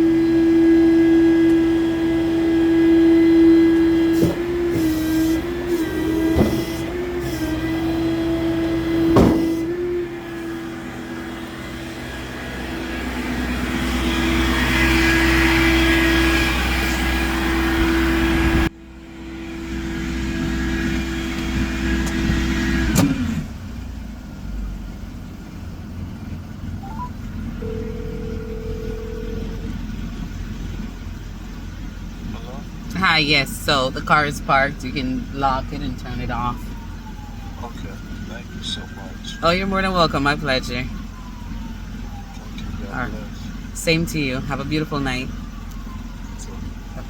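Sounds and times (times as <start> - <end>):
vehicle engine hum: 0.0 - 47.0.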